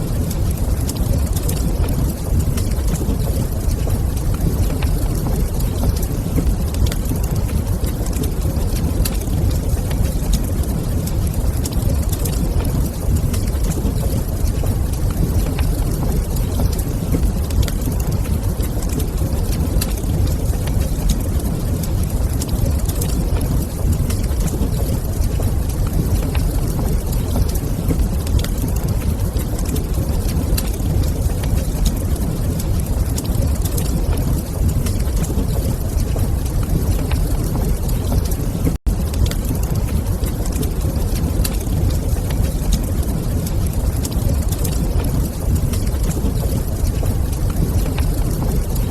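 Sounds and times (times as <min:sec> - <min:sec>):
faint fire crackles: 0:00.0 - 0:48.9
log fire rumbling: 0:00.0 - 0:48.9.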